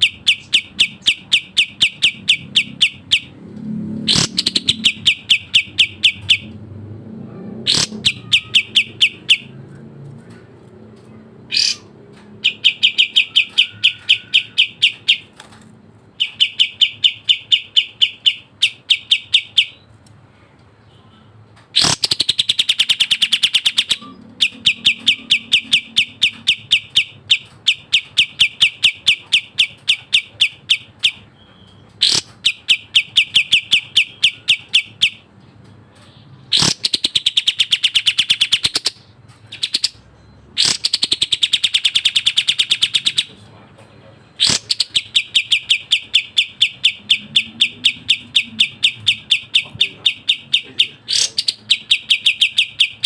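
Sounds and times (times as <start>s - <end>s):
bird singing fast trills: 0.0s - 6.8s, 7.4s - 9.8s, 11.4s - 15.5s, 16.1s - 19.9s, 21.8s - 35.3s, 36.0s - 43.4s, 44.3s - 53.0s.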